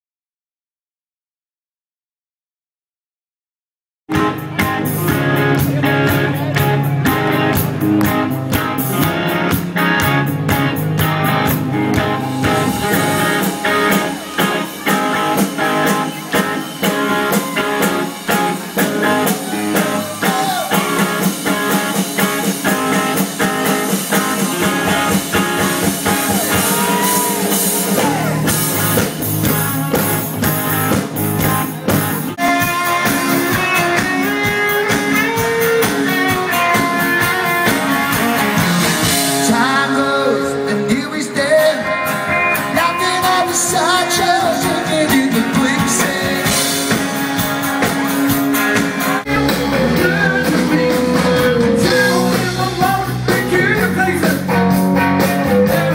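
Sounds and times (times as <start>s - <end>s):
live rock band playing: 4.1s - 55.9s.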